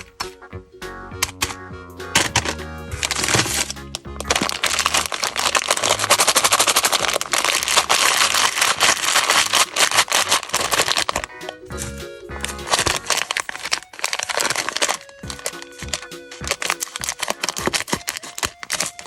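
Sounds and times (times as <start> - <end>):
candy packaging crackling: 0.0 - 0.4, 2.2 - 19.0
background music: 0.0 - 19.0.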